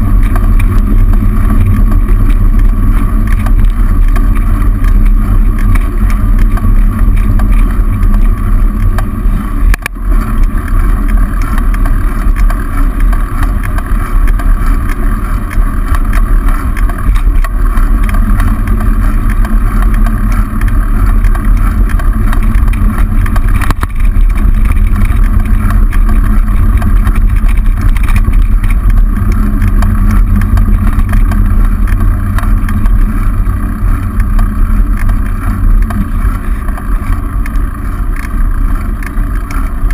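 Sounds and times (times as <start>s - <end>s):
road vibration: 0.0s - 39.9s
wind rumble on microphone: 0.0s - 39.9s.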